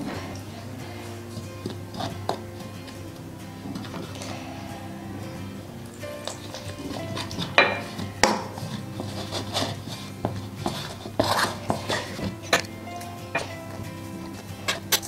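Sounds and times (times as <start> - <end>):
background music: 0.0 - 15.0
spoon scraping plastic bowl: 0.0 - 15.0.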